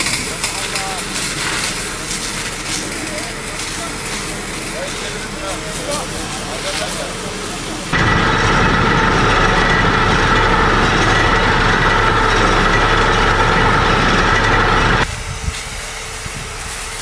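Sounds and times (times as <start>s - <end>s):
truck engine pumping water: 0.0s - 17.0s.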